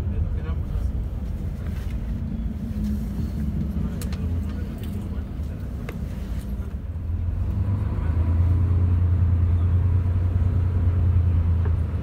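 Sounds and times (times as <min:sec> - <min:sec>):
coach engine and road drone: 0:00.0 - 0:12.0.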